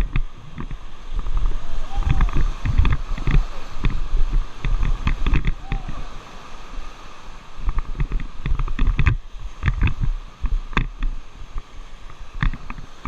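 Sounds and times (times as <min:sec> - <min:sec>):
whitewater rushing against a raft: 0:00.0 - 0:13.0
wind hitting microphone: 0:00.0 - 0:13.0.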